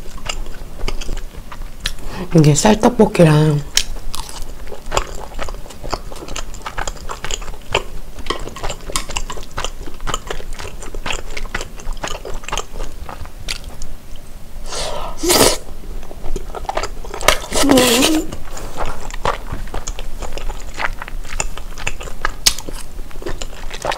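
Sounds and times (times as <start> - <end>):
wet chewing mouth clicks: 0.0 - 2.0, 3.7 - 13.9, 15.4 - 23.9.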